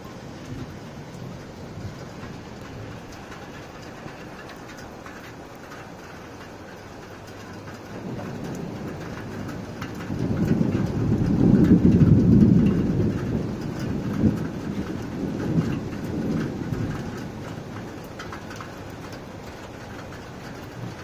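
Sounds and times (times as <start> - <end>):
rain hissing: 0.0 - 21.0
thunder rumbling: 0.0 - 21.0.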